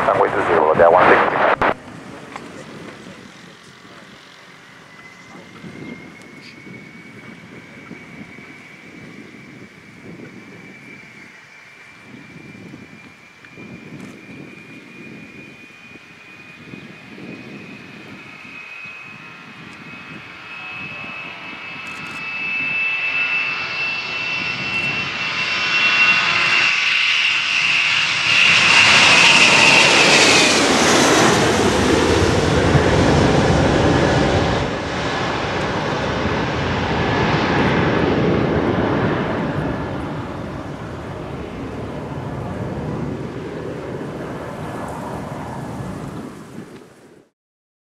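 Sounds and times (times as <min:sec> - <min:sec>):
jet engines roaring overhead: 0:00.0 - 0:47.3.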